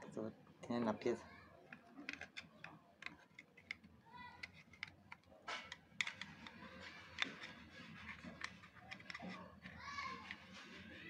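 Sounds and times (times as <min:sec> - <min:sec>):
plastic and metal parts clicking: 0:01.6 - 0:11.0.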